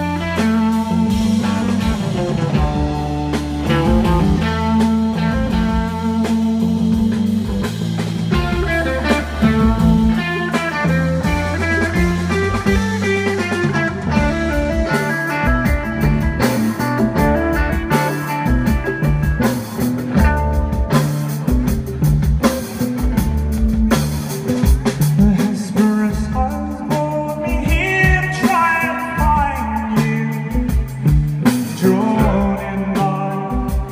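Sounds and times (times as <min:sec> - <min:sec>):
bass guitar: 0:00.0 - 0:33.9
drum kit: 0:00.0 - 0:33.9
electric guitar lines: 0:00.0 - 0:33.9.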